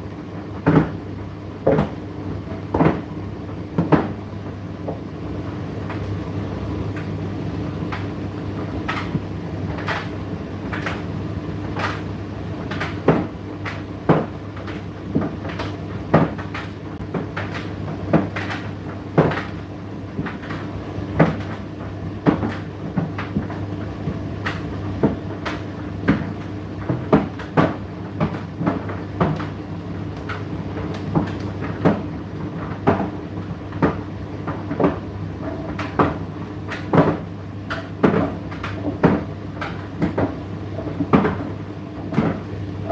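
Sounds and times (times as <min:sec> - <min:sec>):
tumble dryer motor hum: 0:00.0 - 0:42.9.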